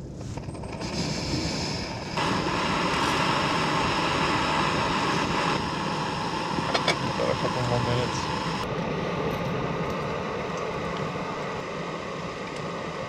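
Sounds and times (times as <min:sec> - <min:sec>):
gas stove burner hissing: 0:00.1 - 0:13.0.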